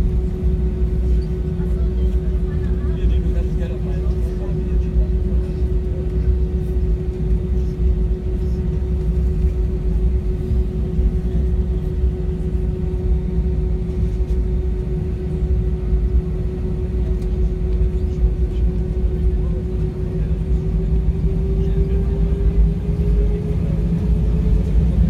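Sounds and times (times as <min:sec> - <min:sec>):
constant cabin hum: 0:00.0 - 0:25.0
jet engine and airflow roar: 0:00.0 - 0:25.0.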